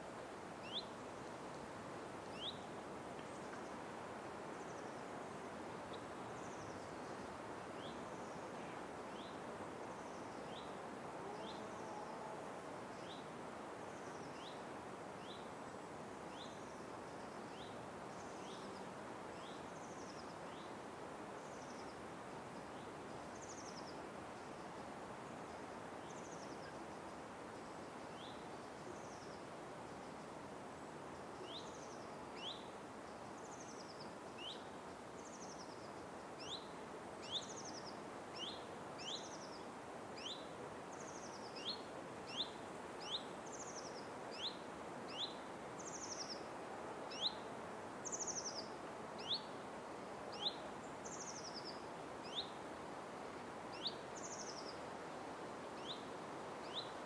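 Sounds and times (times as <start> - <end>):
forest ambience hiss: 0.0 - 57.0.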